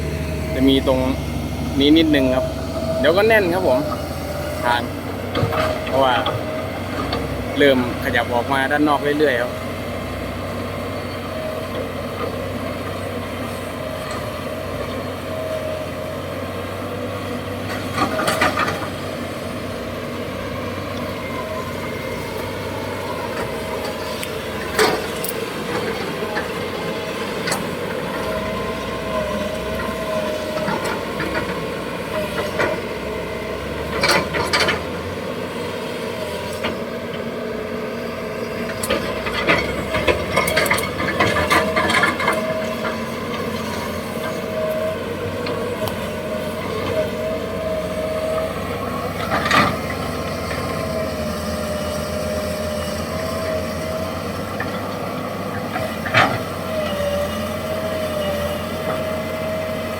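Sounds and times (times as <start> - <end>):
truck engine running: 0.0 - 59.2.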